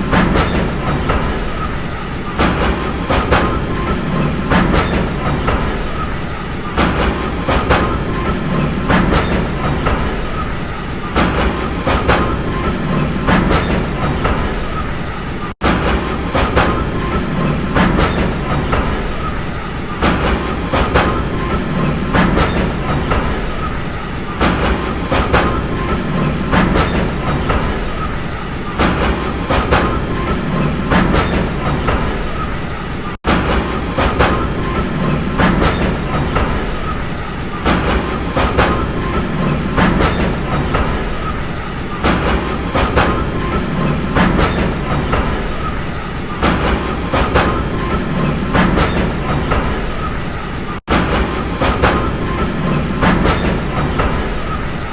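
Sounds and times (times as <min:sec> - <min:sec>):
train rumble: 0:00.0 - 0:54.9
wheels clickety-clack on rail joints: 0:00.0 - 0:54.9.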